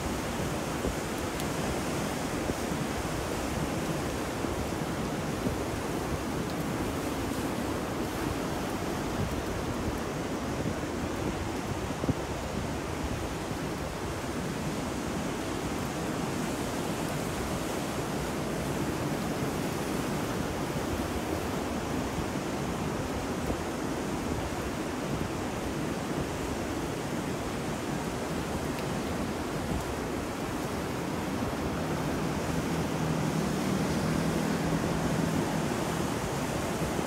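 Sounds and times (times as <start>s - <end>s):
ocean surf: 0.0s - 37.0s
rain: 0.0s - 37.0s
wind: 0.0s - 37.0s.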